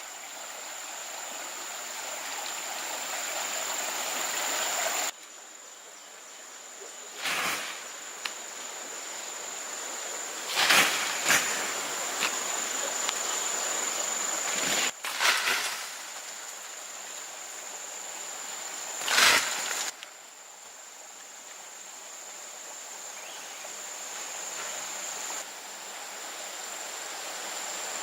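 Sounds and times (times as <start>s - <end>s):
insects droning: 0.0s - 28.0s
outdoor background hiss: 0.0s - 28.0s.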